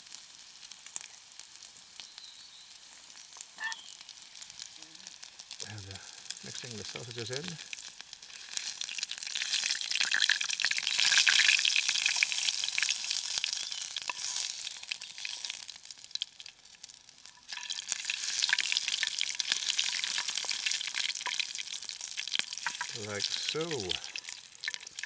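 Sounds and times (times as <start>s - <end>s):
sausages sizzling in a pan: 0.0s - 25.0s.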